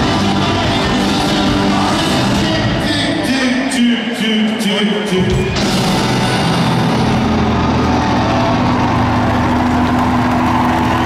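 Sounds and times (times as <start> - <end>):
rock band chord drone: 0.0 - 3.2, 5.3 - 11.0.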